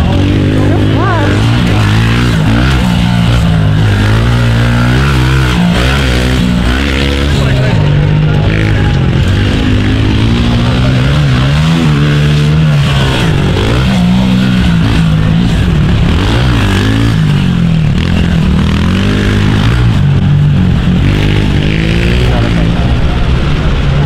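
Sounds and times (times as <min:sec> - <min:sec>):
pit bike engines revving: 0:00.0 - 0:24.0.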